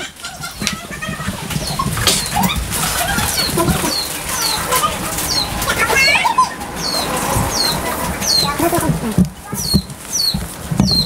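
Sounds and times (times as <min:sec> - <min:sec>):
steady rain: 0:00.0 - 0:10.8
other bird calls: 0:00.0 - 0:11.0
small bird chirping: 0:01.6 - 0:11.0.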